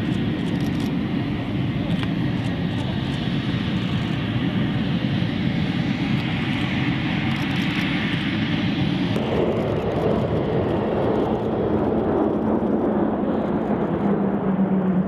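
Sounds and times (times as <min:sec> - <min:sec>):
low propeller hum: 0:00.0 - 0:15.0
turboprop engines droning: 0:00.0 - 0:15.0.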